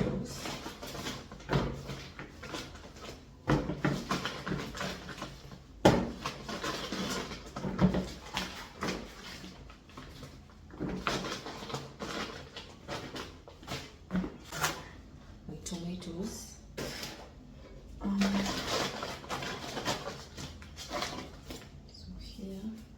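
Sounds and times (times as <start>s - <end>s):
groceries rustling: 0.0s - 22.9s.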